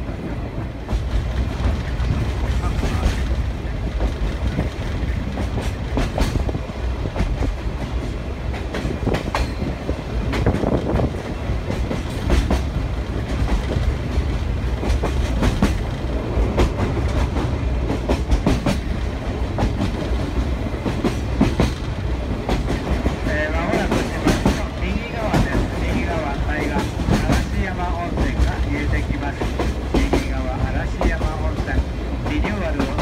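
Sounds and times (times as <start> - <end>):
train low rumble: 0.0 - 33.0
wheels clacking over rails: 0.0 - 33.0.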